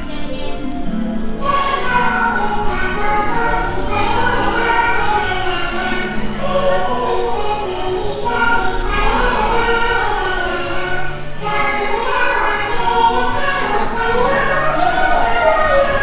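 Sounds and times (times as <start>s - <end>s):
choir singing held notes: 0.0s - 16.0s
low accompaniment: 0.0s - 16.0s.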